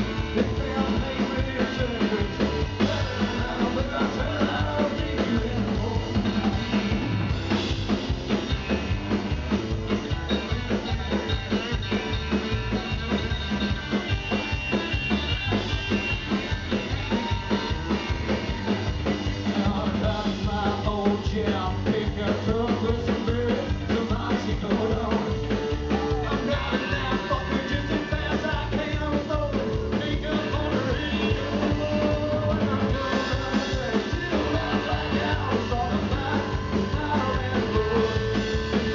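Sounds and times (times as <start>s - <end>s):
live rock band playing: 0.0s - 38.9s
steady drum beat: 0.0s - 38.9s.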